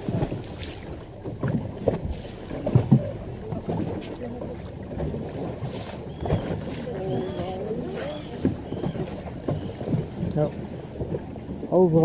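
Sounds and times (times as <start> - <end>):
water slapping against boat hull: 0.0 - 12.0
wind on microphone: 0.0 - 12.0.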